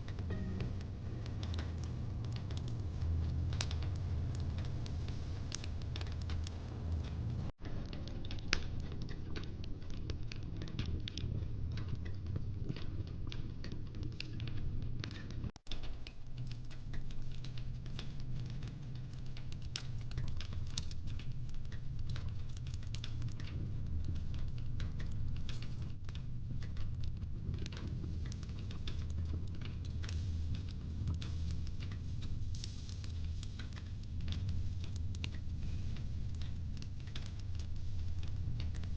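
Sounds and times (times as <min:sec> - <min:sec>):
fire crackling and popping: 0:00.0 - 0:38.9
low rumble of burning wood: 0:00.0 - 0:38.9.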